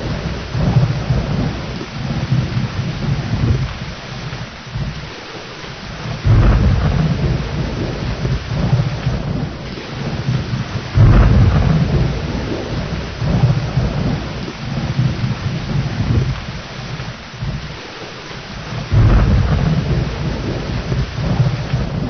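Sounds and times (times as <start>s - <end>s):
rolling thunder: 0.0s - 5.2s, 5.8s - 22.0s
heavy rain: 0.0s - 22.0s.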